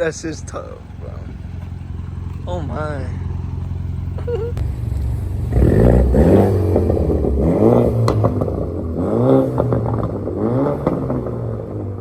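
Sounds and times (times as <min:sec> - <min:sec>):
car exhaust idling and revving: 0:00.0 - 0:12.0.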